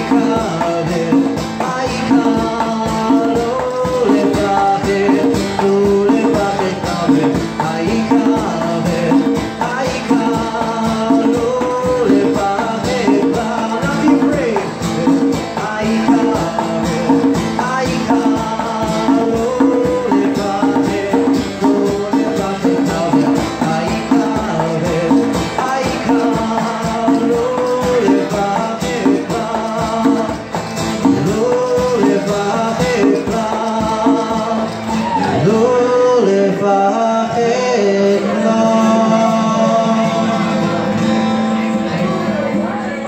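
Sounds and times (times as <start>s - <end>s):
conga drums: 0.0s - 43.0s
person singing: 0.0s - 43.0s
strummed acoustic guitar: 0.0s - 43.0s.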